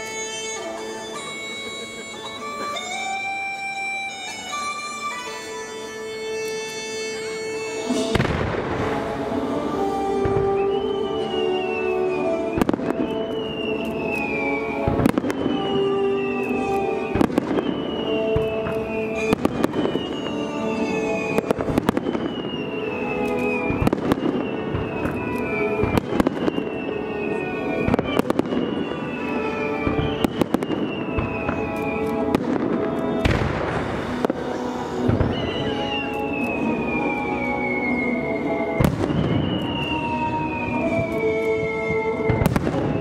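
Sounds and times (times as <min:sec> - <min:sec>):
fireworks bangs and crackles: 0:06.2 - 0:43.0.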